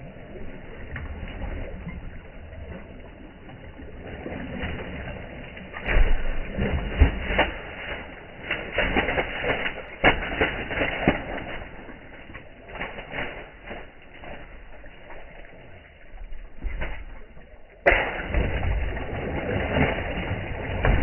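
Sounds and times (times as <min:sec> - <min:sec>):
fish thrashing and splashing: 0:00.1 - 0:21.0.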